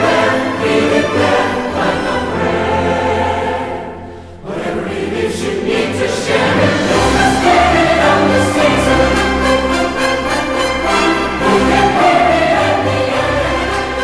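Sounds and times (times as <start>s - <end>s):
choir singing with orchestra: 0.0s - 14.0s.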